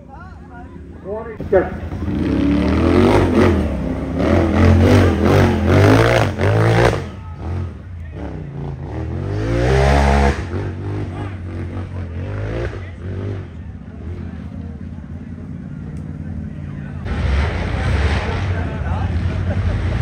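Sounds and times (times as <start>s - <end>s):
utv engine revving: 1.2s - 20.0s.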